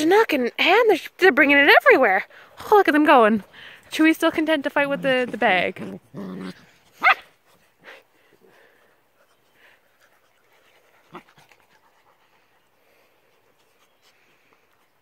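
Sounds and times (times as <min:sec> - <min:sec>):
puppies panting: 0:02.2 - 0:15.0.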